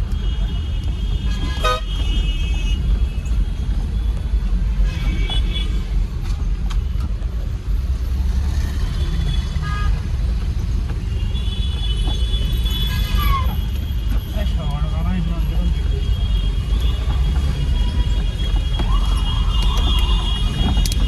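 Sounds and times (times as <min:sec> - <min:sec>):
road noise: 0:00.0 - 0:21.0
truck engine rumble: 0:00.0 - 0:21.0.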